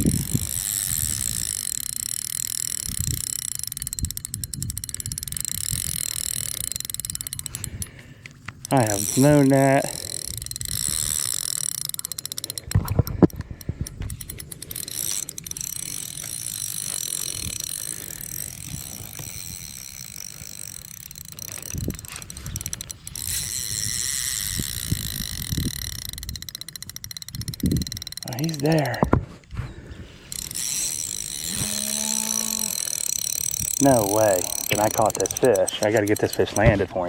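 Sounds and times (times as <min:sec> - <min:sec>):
fishing reel whirring: 0:00.0 - 0:29.1, 0:30.0 - 0:37.0
fishing reel drag ratcheting: 0:00.0 - 0:29.2, 0:30.2 - 0:37.0.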